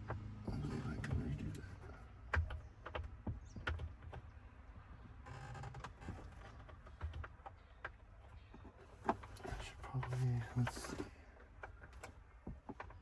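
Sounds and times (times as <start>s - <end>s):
light clicks and knocks: 0.0s - 13.0s.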